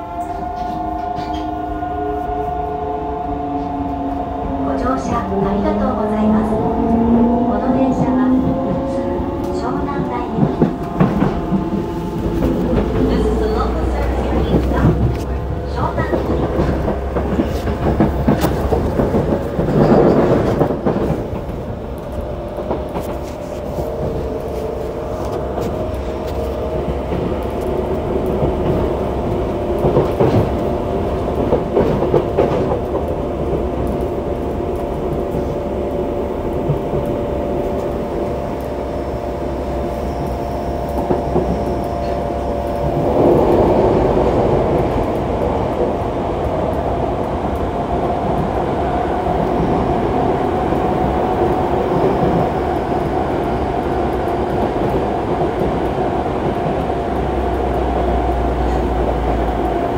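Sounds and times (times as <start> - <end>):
train motor and inverter tones: 0.0 - 59.9
wheel and rail rumble: 0.0 - 59.9.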